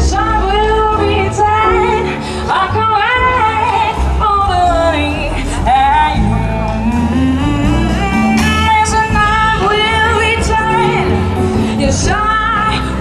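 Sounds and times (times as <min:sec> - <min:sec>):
jazz band playing: 0:00.0 - 0:13.0
person singing: 0:00.0 - 0:13.0.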